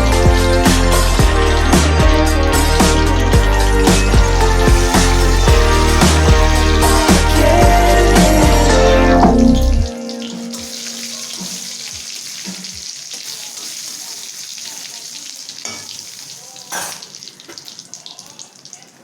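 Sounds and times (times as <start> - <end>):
hot oil sizzling in a pan: 0.0 - 19.0.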